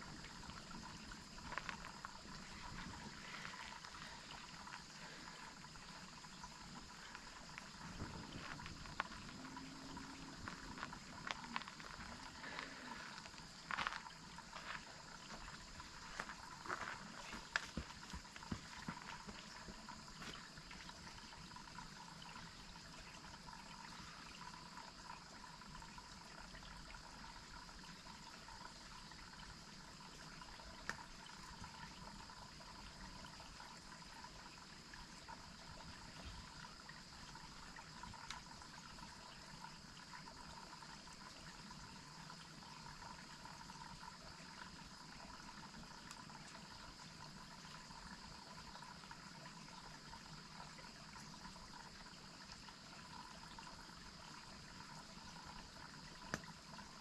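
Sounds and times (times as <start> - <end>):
waterfall running water: 0.0 - 57.0.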